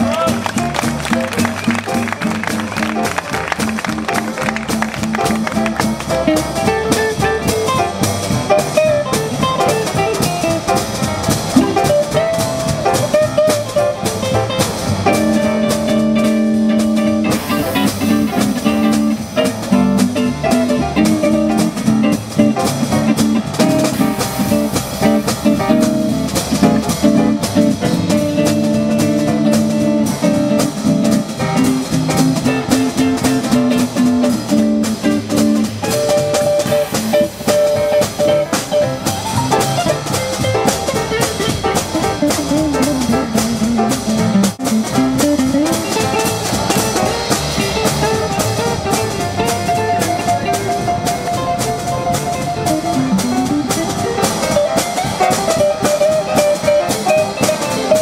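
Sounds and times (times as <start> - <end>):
drum kit steady beat: 0.0 - 58.0
small band playing: 0.0 - 58.0.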